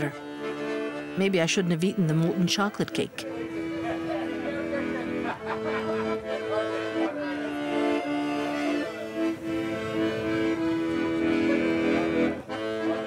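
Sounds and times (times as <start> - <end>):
accordion slow melody: 0.0 - 13.0.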